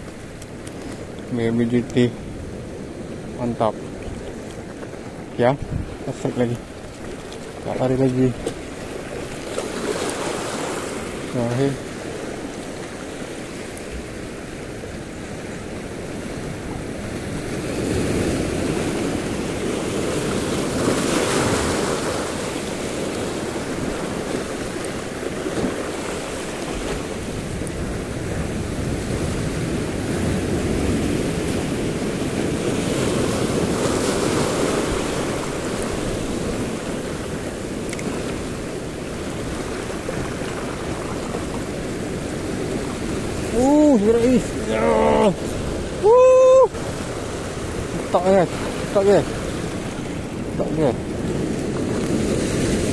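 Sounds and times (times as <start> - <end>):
sea waves breaking: 0.0 - 52.9
wind on microphone: 0.0 - 52.9.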